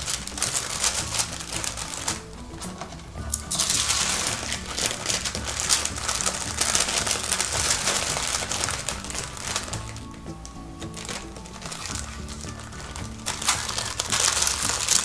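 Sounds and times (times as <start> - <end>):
baking paper crinkling: 0.0 - 15.0.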